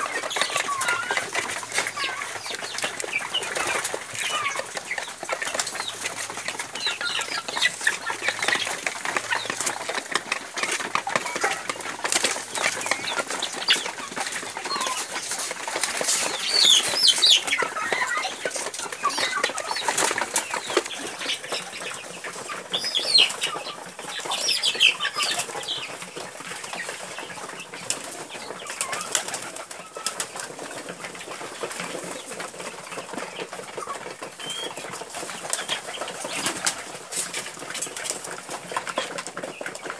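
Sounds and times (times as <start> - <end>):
chickens pecking and scratching: 0.0 - 39.9
wings flapping: 0.0 - 39.9.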